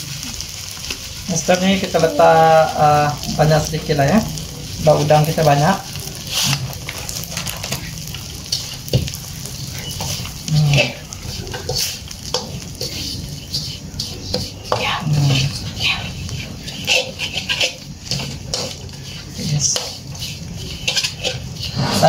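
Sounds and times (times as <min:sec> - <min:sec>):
light frying sizzle: 0:00.0 - 0:22.0
metal spatula scraping a wok: 0:03.2 - 0:22.0.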